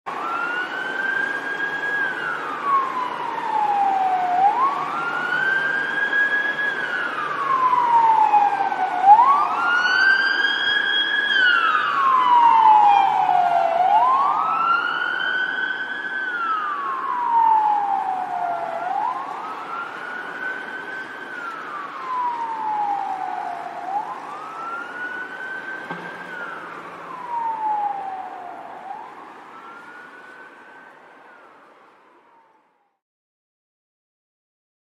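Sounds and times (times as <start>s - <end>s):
police siren wailing: 0.1s - 33.0s.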